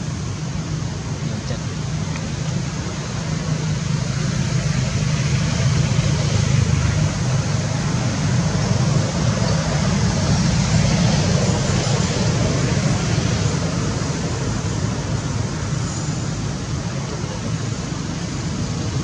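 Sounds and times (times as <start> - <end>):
steady rumbling background noise: 0.0 - 19.0.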